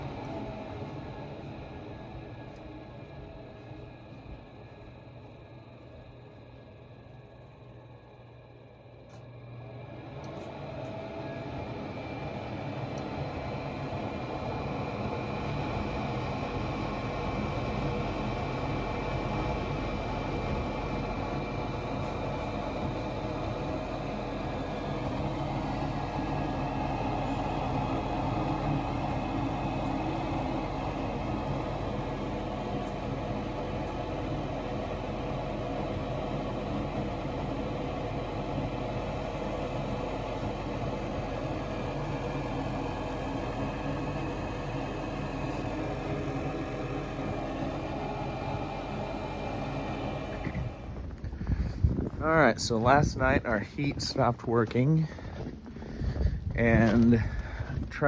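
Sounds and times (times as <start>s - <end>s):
faint high whine: 0.0s - 55.2s
machine hum: 0.0s - 58.0s.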